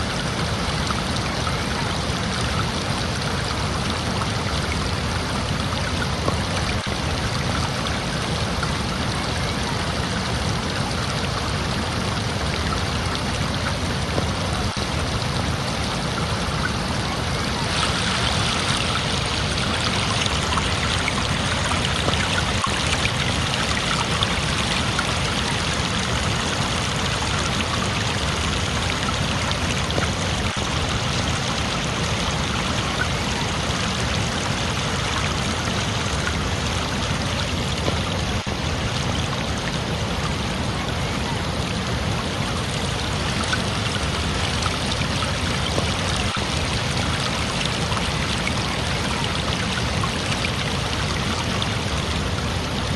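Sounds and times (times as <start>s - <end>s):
flowing water rushing: 0.0s - 52.9s.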